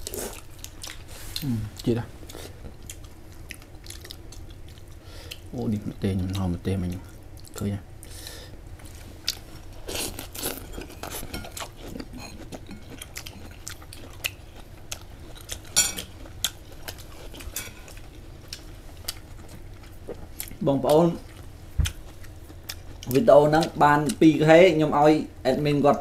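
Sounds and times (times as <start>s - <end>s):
crunching and chewing: 0.0s - 24.2s.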